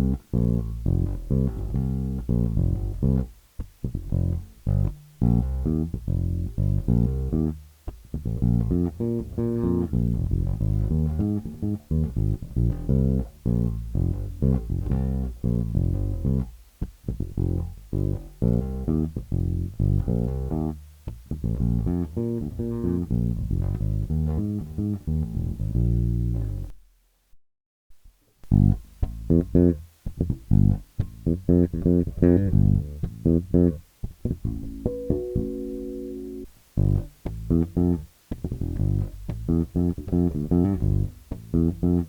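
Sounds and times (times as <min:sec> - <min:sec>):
electric bass playing: 0:00.0 - 0:26.7, 0:28.5 - 0:42.0.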